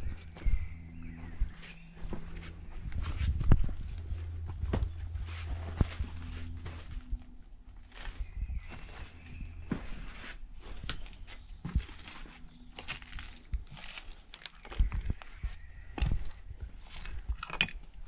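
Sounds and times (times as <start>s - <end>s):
footsteps crunching on leaves: 0.0s - 15.4s.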